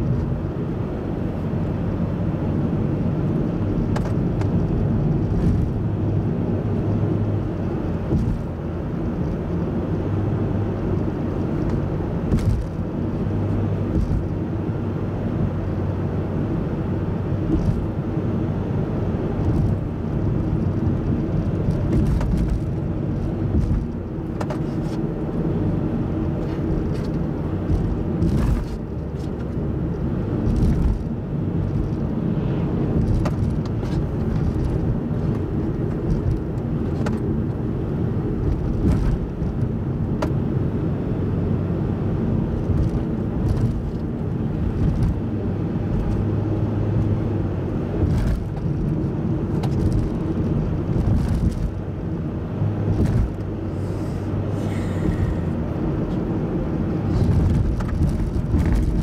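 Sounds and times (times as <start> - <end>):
engine and tyre drone: 0.0 - 59.0.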